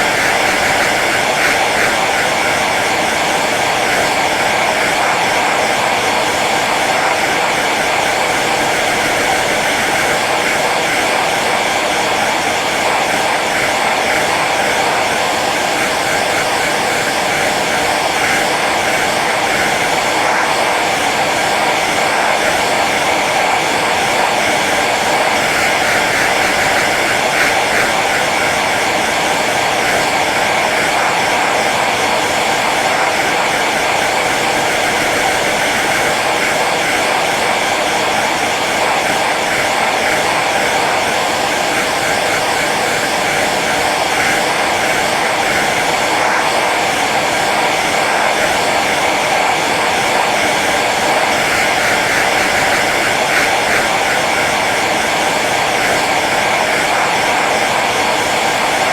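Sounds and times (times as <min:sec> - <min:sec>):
hair dryer blowing: 0:00.0 - 0:58.9.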